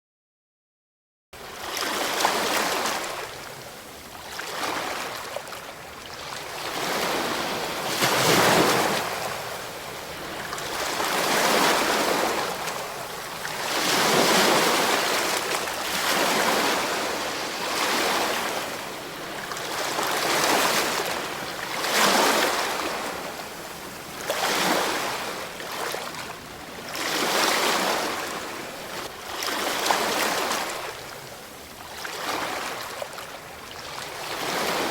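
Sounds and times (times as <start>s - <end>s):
ocean waves breaking on shore: 1.4s - 34.9s.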